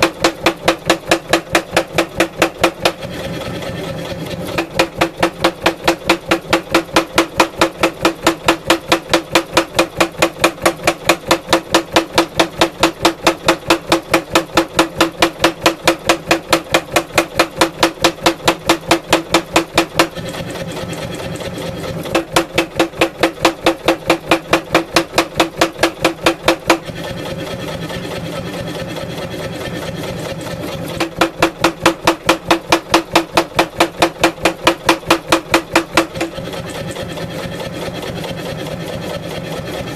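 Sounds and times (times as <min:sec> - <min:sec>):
power hammer striking steel: 0:00.0 - 0:03.1, 0:04.5 - 0:20.6, 0:21.2 - 0:27.2, 0:29.7 - 0:39.9.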